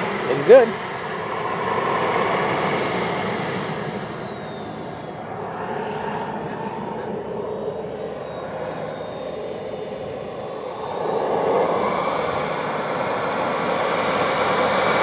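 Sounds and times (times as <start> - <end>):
jet turbine engine whine: 0.0 - 15.0.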